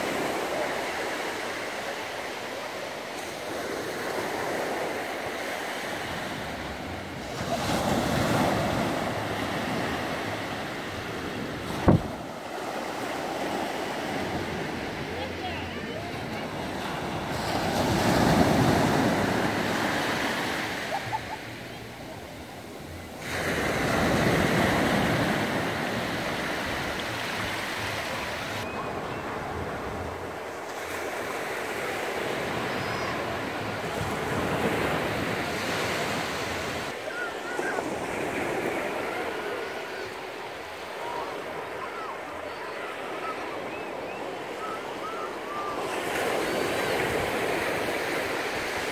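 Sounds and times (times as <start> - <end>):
surf washing over sand: 0.0 - 48.9.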